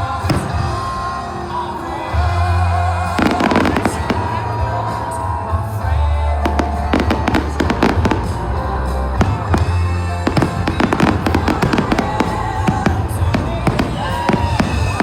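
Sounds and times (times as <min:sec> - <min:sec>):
fireworks bangs and crackles: 0:00.0 - 0:15.0
music with low bass: 0:00.0 - 0:15.0.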